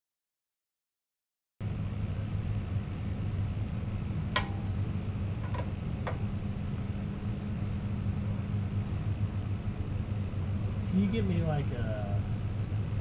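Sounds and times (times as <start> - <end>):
small engine idling: 1.8 - 13.0.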